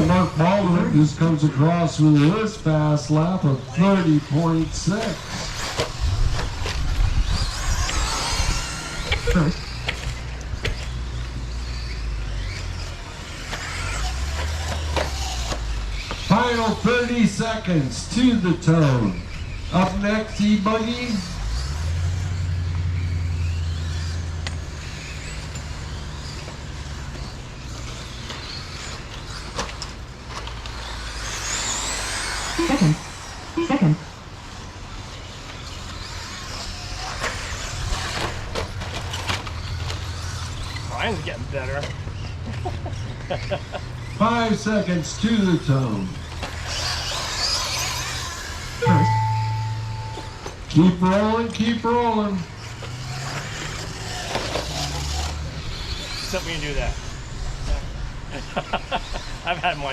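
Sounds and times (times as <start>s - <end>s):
high motor whine: 0.0s - 59.9s.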